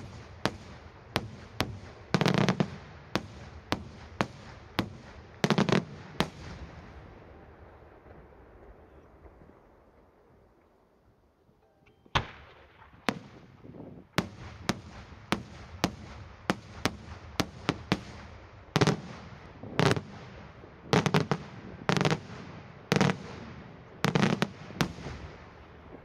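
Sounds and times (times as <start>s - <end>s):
fireworks bursting with sharp bangs: 0.0s - 10.3s, 12.1s - 26.0s
fireworks rumble: 0.0s - 11.5s, 12.2s - 26.0s.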